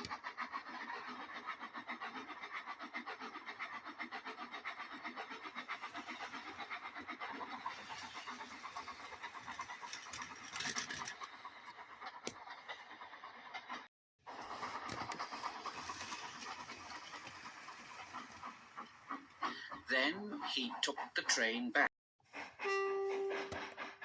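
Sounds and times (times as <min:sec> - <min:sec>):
steam locomotive chuffing: 0:00.0 - 0:21.2.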